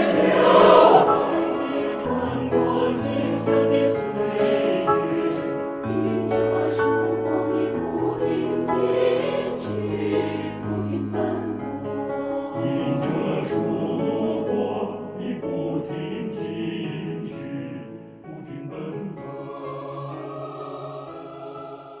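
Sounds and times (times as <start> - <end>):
mixed choir singing chords: 0.0 - 22.0.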